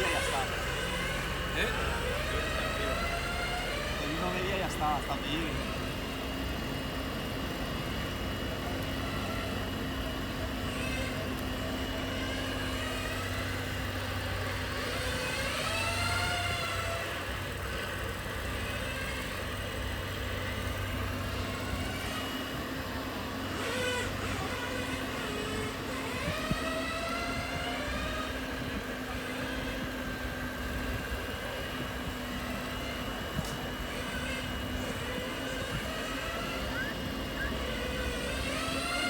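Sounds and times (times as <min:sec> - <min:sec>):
model truck electric motors whining: 0:00.0 - 0:39.0.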